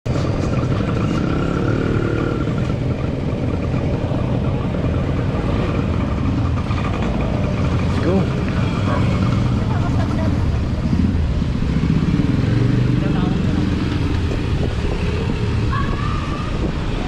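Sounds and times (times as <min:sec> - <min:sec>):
dense traffic rumble: 0:00.0 - 0:17.0
car engines: 0:00.1 - 0:17.0
motorcycle engines: 0:00.1 - 0:17.0.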